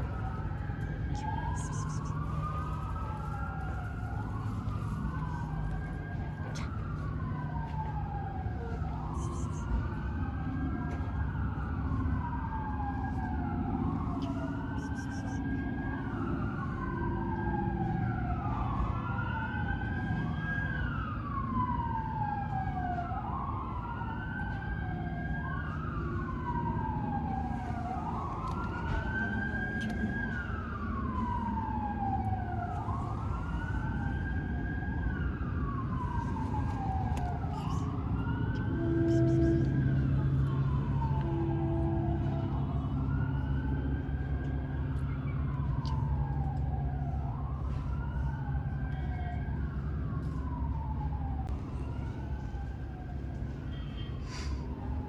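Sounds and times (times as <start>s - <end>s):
emergency siren wailing: 0.0s - 55.0s
steady low rumble: 0.0s - 55.0s.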